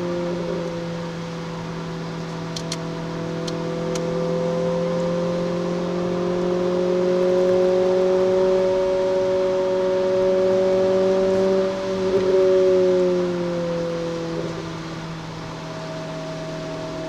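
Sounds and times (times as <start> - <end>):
car engine revving under load: 0.0 - 17.0.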